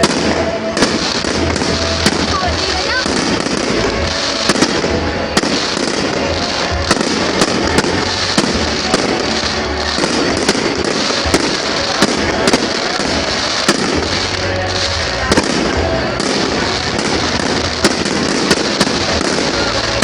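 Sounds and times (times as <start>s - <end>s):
fireworks bangs: 0.0s - 20.0s
fireworks crackle: 0.0s - 20.0s.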